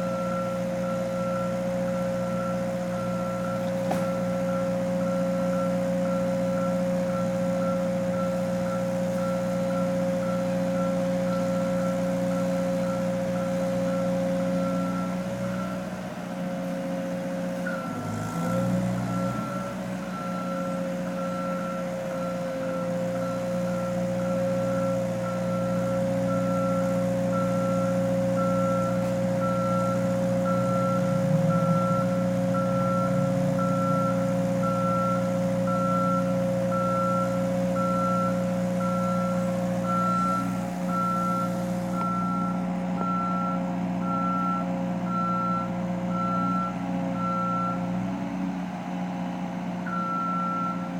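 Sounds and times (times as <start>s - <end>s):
reversing alarm beeping: 0.0s - 16.8s, 17.5s - 48.0s, 49.8s - 50.9s
vehicle engine running: 0.0s - 50.9s.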